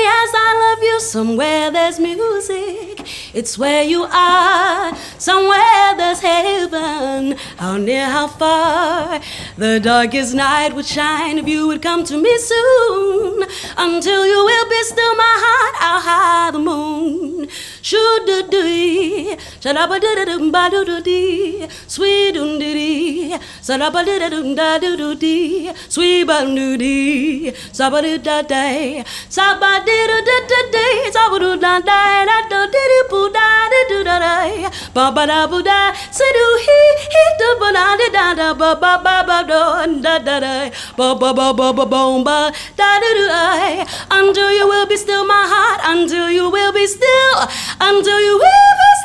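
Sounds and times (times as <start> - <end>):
woman singing unaccompanied: 0.0 - 49.0.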